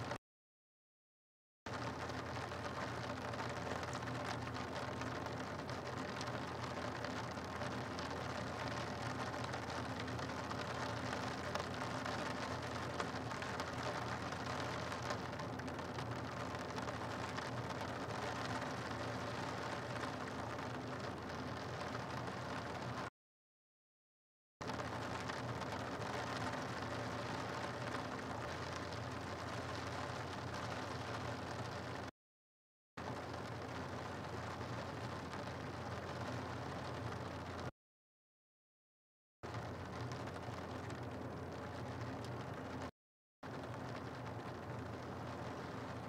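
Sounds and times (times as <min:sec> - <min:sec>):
rain on a rooftop: 0:00.0 - 0:00.2, 0:01.7 - 0:23.1, 0:24.6 - 0:32.1, 0:33.0 - 0:37.7, 0:39.4 - 0:46.0.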